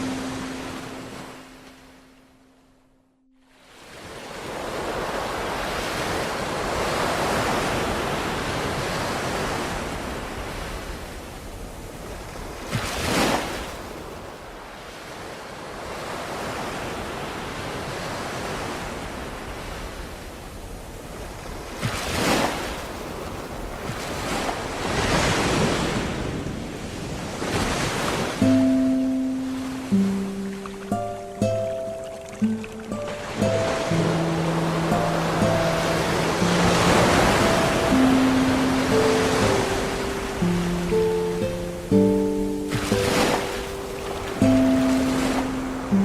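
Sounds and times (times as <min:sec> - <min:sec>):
ocean waves breaking: 0:00.0 - 0:46.0.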